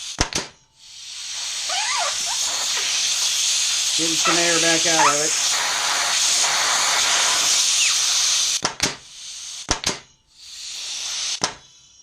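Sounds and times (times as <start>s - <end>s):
compressed air hissing: 0.0s - 0.2s, 0.8s - 12.0s.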